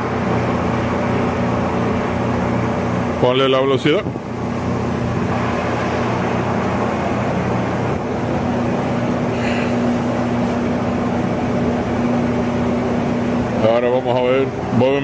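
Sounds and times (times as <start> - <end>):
lathe whirring: 0.0 - 15.0.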